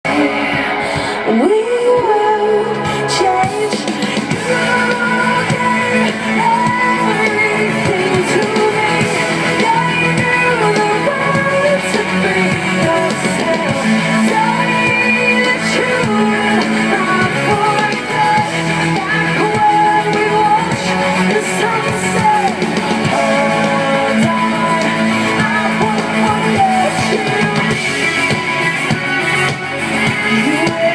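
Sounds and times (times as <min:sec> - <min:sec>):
drums: 0:00.0 - 0:30.9
electric guitar: 0:00.0 - 0:30.9
person singing: 0:00.0 - 0:30.9.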